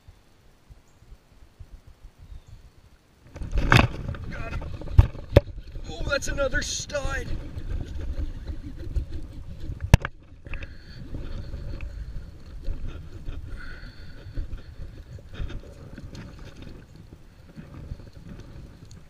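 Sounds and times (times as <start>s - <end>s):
low rumbling handling noise: 1.1s - 19.0s.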